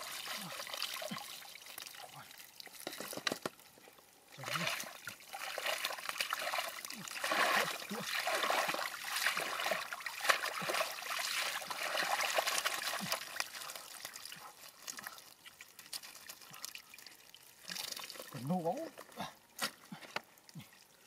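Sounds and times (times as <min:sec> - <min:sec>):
muddy water splashing and trickling: 0:00.0 - 0:21.0.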